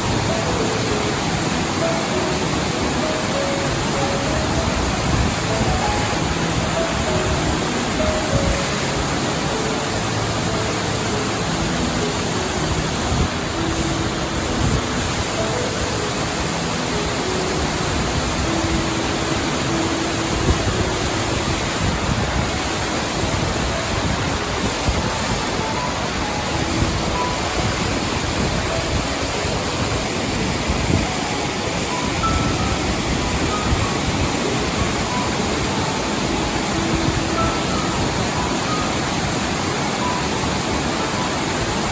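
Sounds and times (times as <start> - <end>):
soft piano notes: 0.0 - 41.9
waterfall rushing: 0.0 - 41.9.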